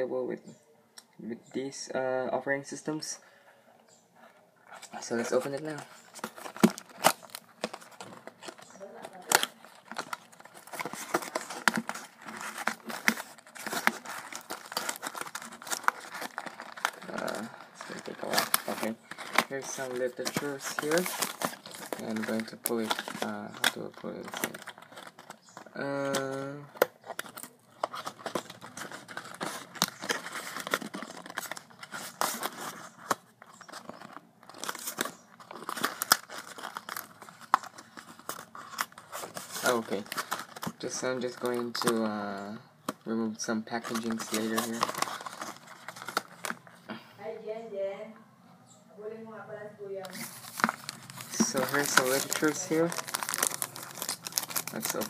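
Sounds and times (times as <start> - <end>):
paperboard packaging rustling: 4.2 - 46.9, 50.0 - 55.0.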